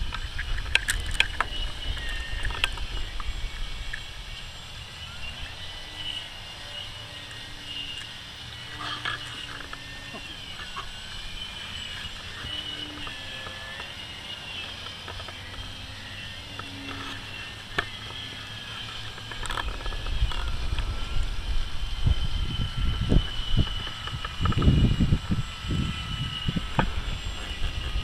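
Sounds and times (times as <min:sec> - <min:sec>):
model plane motor whine: 0:00.0 - 0:28.0
wind buffeting microphone: 0:00.0 - 0:28.0.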